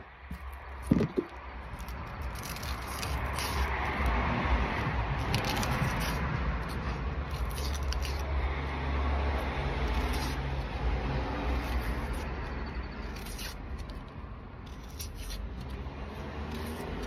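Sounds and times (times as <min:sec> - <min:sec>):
knife peeling vegetable: 0:00.3 - 0:17.0.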